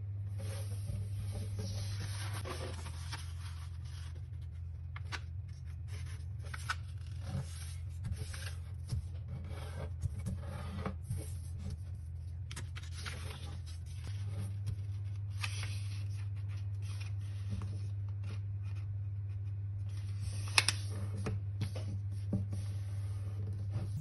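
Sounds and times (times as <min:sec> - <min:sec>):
steady low hum: 0:00.0 - 0:24.0
paper sliding and rubbing: 0:00.3 - 0:18.4, 0:19.9 - 0:24.0
paper crackles and creasing: 0:00.4 - 0:24.0.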